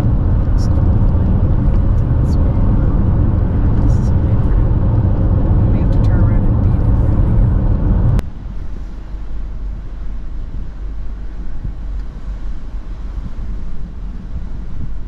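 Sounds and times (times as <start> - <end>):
car road and wind rumble: 0.0 - 15.0.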